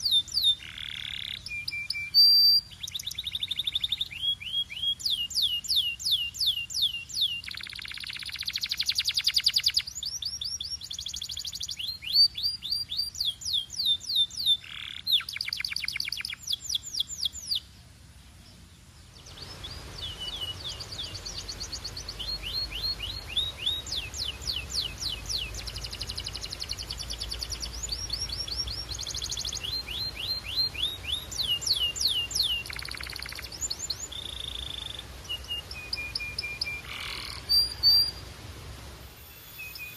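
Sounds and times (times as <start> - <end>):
canary singing trills: 0.0 - 17.7, 18.6 - 38.2, 39.2 - 39.9.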